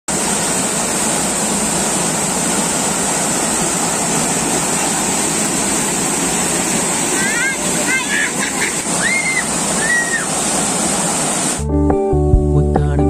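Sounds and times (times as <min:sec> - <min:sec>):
high hiss: 0:00.1 - 0:11.6
waterfall rushing: 0:00.1 - 0:11.6.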